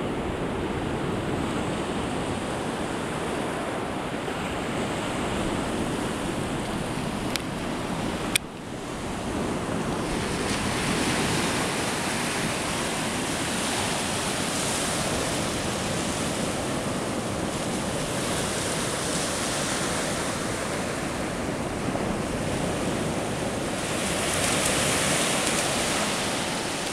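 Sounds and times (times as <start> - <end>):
waves breaking on beach: 0.0 - 26.9
wind on microphone: 0.0 - 26.9.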